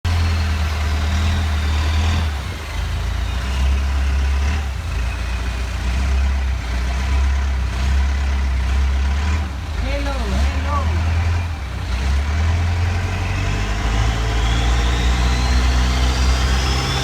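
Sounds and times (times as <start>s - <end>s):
wind: 0.0s - 17.0s
boat engine droning: 0.1s - 17.0s.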